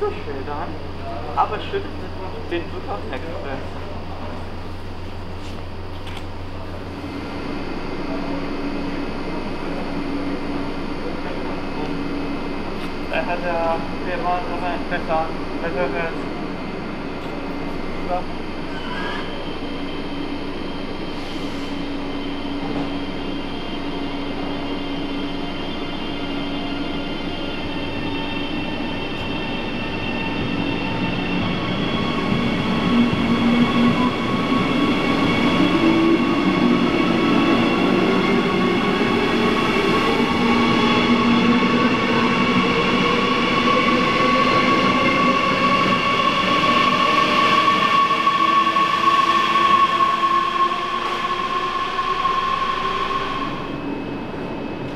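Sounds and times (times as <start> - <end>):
train running hum: 0.0 - 54.9.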